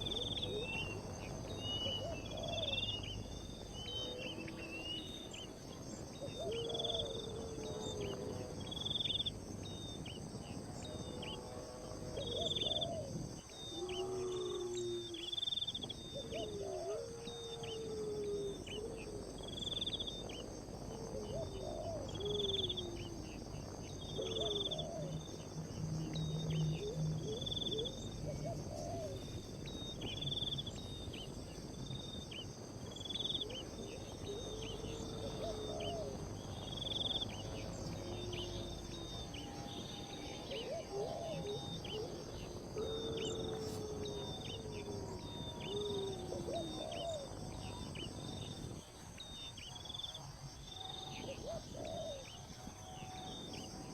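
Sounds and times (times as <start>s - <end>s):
high insect drone: 0.0s - 53.9s.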